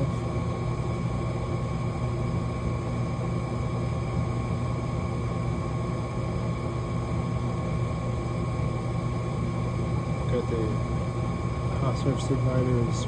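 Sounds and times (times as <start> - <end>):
furnace motor humming: 0.0 - 13.0
thin steady whine: 0.0 - 13.0.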